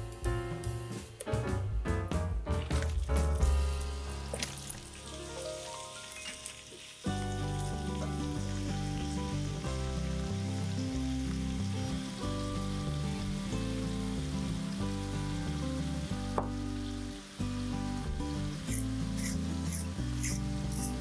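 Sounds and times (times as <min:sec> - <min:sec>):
background music: 0:00.0 - 0:21.0
leeks sizzling in a frying pan: 0:02.7 - 0:21.0.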